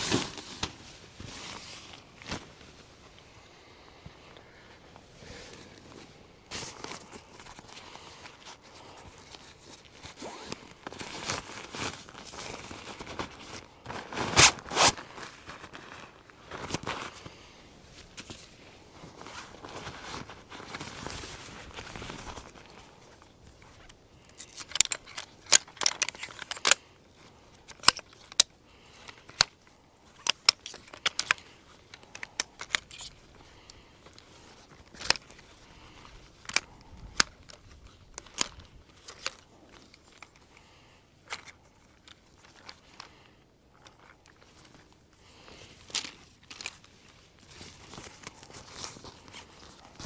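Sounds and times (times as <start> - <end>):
rustling: 0.0 - 4.3, 4.9 - 50.0.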